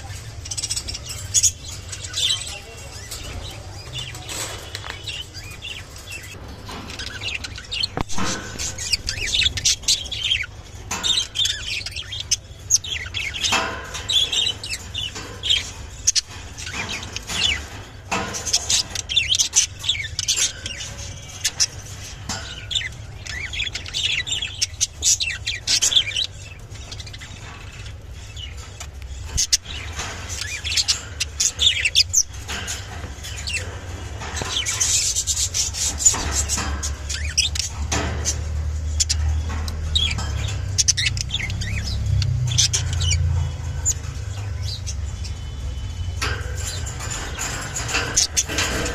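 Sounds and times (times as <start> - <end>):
budgerigars chirping: 0.0 - 48.9.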